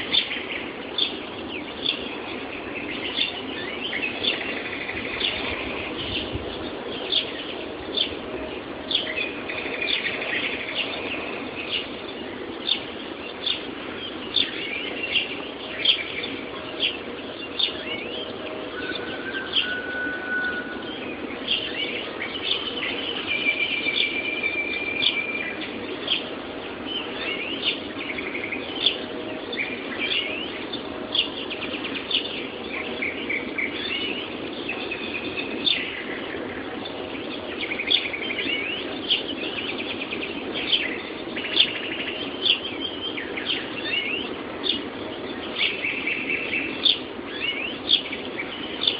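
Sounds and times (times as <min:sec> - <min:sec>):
songbirds singing: 0:00.0 - 0:48.9
steady low hiss: 0:00.0 - 0:48.9.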